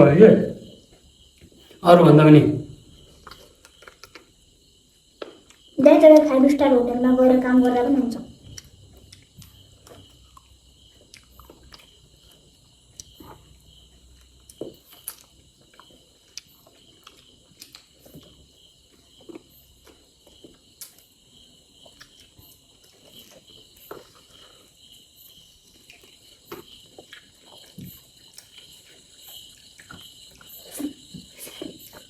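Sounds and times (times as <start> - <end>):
crickets chirring: 0.0 - 32.0
people chewing and mouth smacks: 0.6 - 1.8, 2.7 - 6.4, 7.6 - 32.0.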